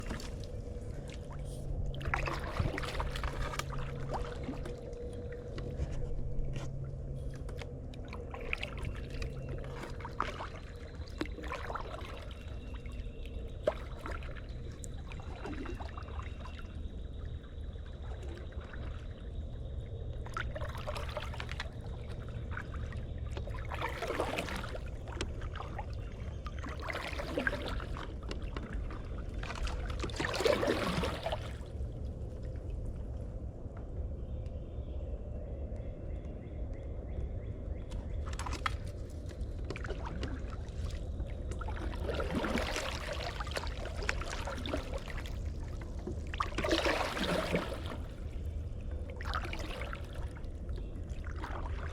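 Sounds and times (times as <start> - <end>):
kayak paddle splashing water: 0.0 - 5.9, 8.1 - 19.3, 20.2 - 32.0, 38.2 - 51.9
water trickling off paddle: 0.0 - 17.0, 20.2 - 32.5, 38.2 - 51.9
steady low hum: 0.0 - 51.9.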